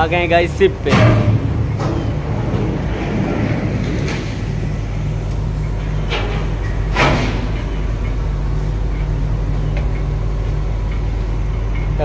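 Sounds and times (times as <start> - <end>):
engines humming: 0.0 - 12.0.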